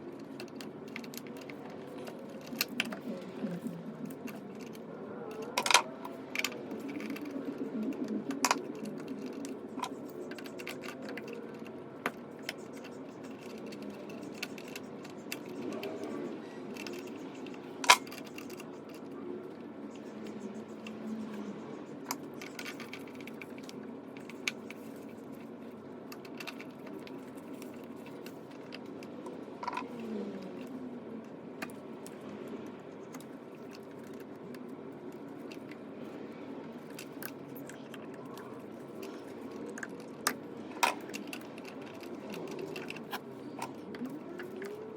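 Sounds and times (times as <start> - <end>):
low background hum: 0.0 - 44.9.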